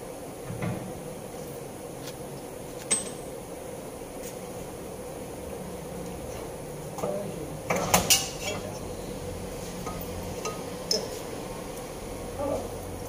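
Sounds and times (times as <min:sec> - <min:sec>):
workshop hum: 0:00.0 - 0:13.0.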